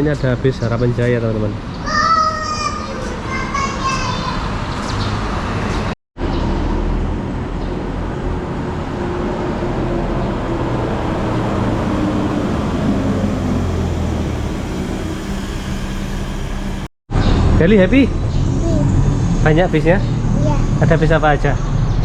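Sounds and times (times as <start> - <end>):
bus engine rumbling: 0.0 - 22.0
traffic noise: 0.0 - 22.0.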